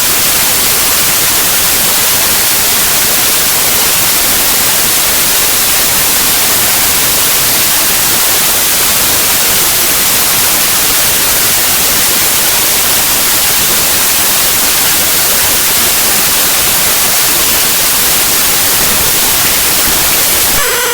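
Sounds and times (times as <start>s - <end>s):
static hiss: 0.0s - 20.9s.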